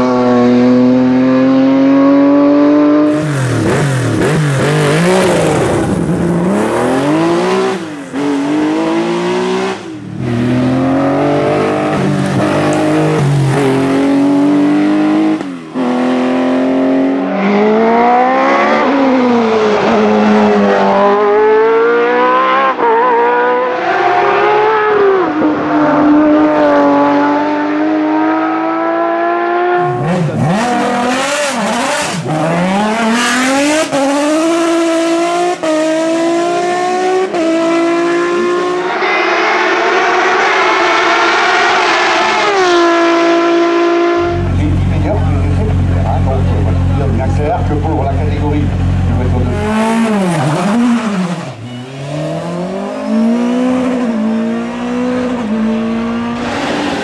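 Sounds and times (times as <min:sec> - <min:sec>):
racing car engines accelerating: 0:00.0 - 0:57.0.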